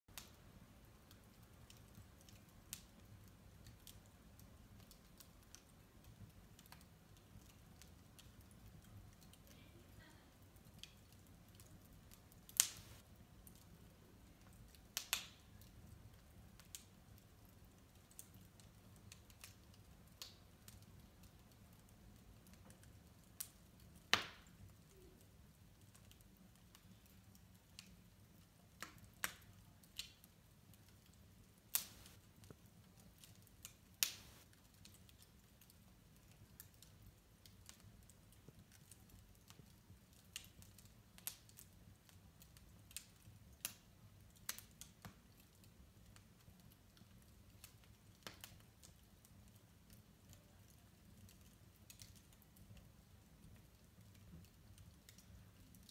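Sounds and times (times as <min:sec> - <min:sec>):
wood fire crackling: 0:00.1 - 0:55.9.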